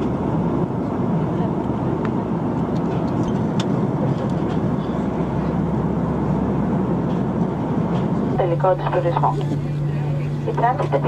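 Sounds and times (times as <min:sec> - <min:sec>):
airliner cabin noise: 0:00.0 - 0:11.0.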